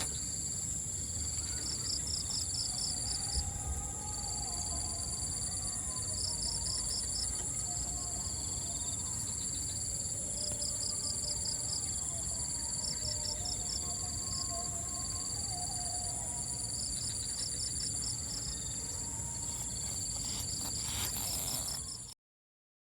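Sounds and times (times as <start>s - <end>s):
insect chirps: 0.0s - 22.2s
insects trilling: 0.0s - 22.2s.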